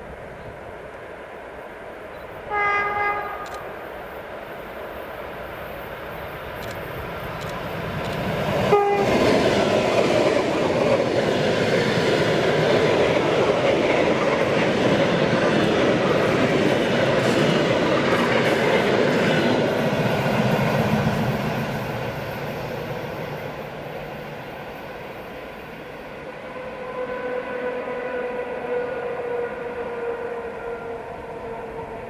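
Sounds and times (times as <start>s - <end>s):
electric train passing: 0.0s - 32.0s.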